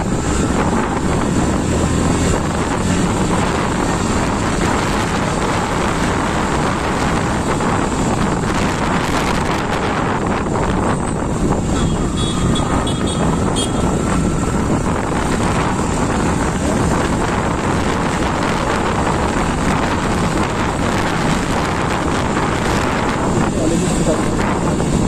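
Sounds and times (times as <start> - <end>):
motorcycle running: 0.0 - 25.0
road noise: 0.0 - 25.0
wind on microphone: 0.0 - 25.0.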